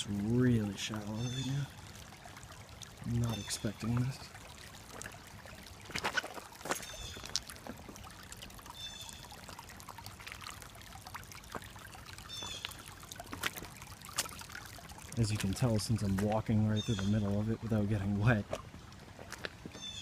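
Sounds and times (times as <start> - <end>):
creek water trickling over stones: 0.0 - 20.0
footsteps wading through water: 0.0 - 20.0.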